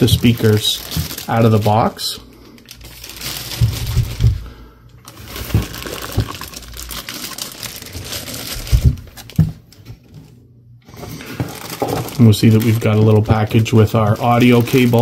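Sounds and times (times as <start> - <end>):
plastic bags crinkling: 0.0 - 9.8, 10.9 - 15.0
packaging rustling: 0.0 - 10.2, 10.9 - 15.0.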